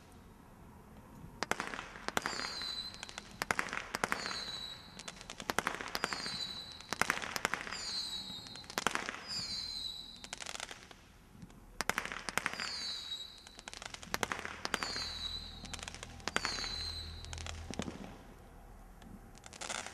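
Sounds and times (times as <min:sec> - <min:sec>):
firework whistles: 0:01.4 - 0:11.0, 0:11.8 - 0:18.4, 0:19.4 - 0:19.9
firework crackle: 0:01.4 - 0:19.9
firework volleys of sharp shots: 0:01.4 - 0:19.9.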